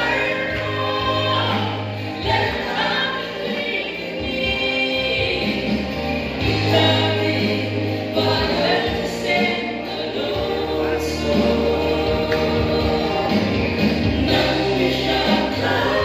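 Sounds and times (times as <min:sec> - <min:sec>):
backing music: 0:00.0 - 0:16.0
woman singing into microphone: 0:00.0 - 0:16.0.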